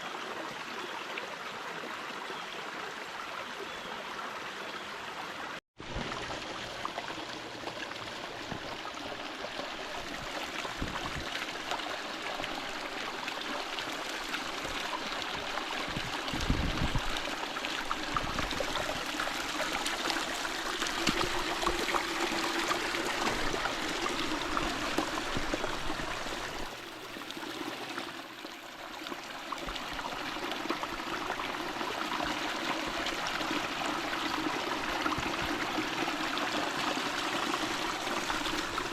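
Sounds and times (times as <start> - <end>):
creek running over rocks: 0.0 - 38.9.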